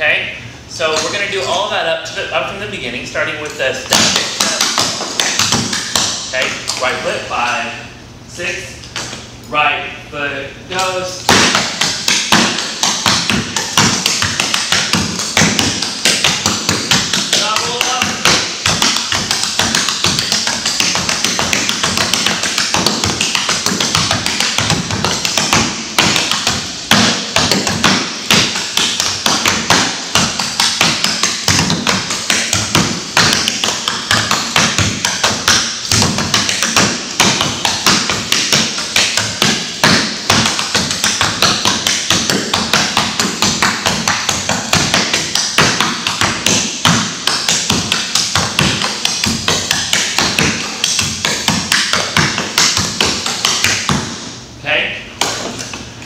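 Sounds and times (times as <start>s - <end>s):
tap shoes on wooden floor: 3.9s - 6.9s, 11.3s - 54.2s.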